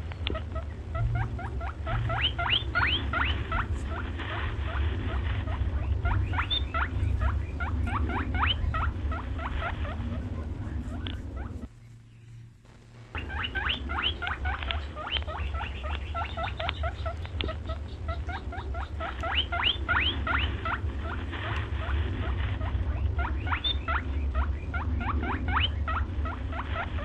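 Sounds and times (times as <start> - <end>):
low hum: 0.0 - 27.0
young animals squeaking: 0.1 - 12.4, 13.2 - 27.0.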